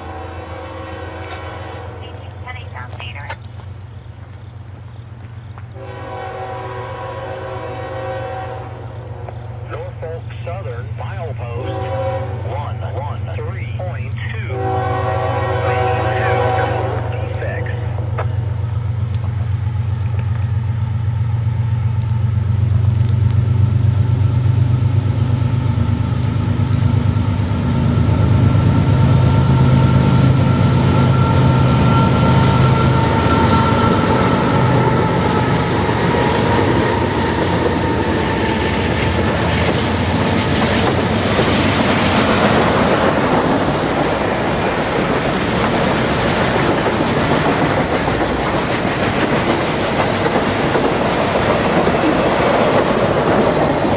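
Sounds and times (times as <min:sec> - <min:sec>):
diesel locomotives humming: 0:00.0 - 0:53.9
freight cars rolling on rails: 0:08.8 - 0:53.9.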